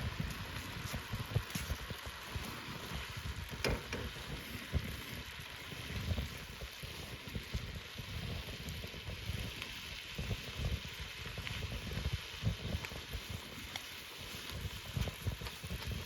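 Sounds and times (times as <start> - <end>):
campfire crackling: 0.0 - 16.0
wind rumble on microphone: 0.0 - 16.0.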